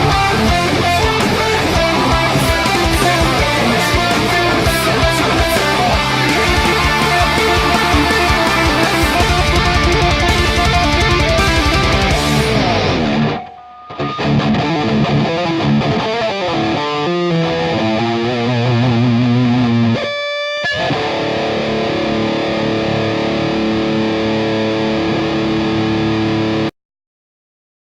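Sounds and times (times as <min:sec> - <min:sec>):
distorted electric guitar riff: 0:00.0 - 0:26.7.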